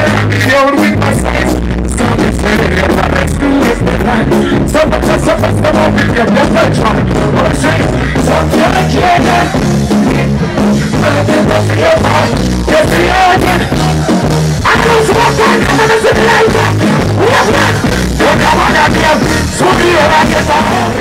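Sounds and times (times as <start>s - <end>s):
man singing: 0.0s - 21.0s
reggae band playing: 0.0s - 21.0s
repeating bass line: 0.0s - 21.0s.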